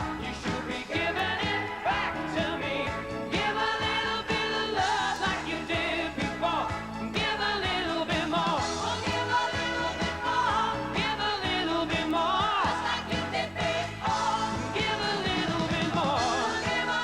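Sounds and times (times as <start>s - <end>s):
live pop band music: 0.0s - 17.0s.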